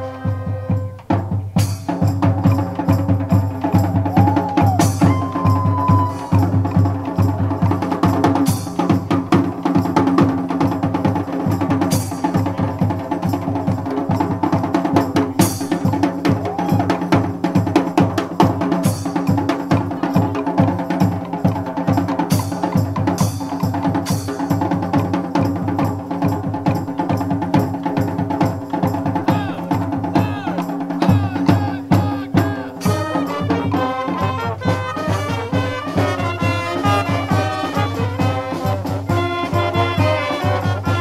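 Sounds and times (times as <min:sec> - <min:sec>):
drums playing fast rhythm: 0:00.0 - 0:41.0.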